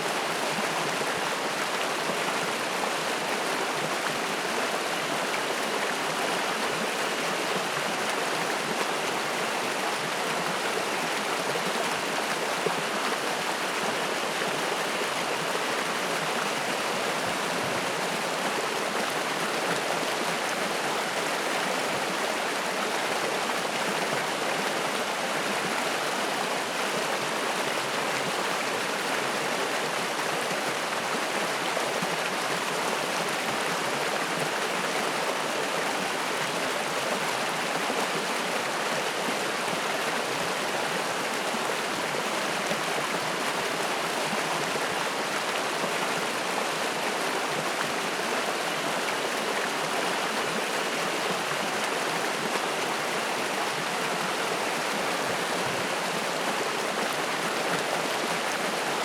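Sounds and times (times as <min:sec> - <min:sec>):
stream rushing and splashing: 0:00.0 - 0:59.0.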